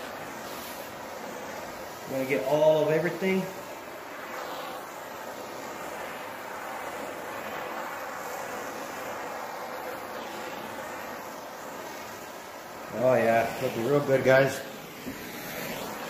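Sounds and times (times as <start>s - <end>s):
propane torch hissing: 0.0s - 16.0s.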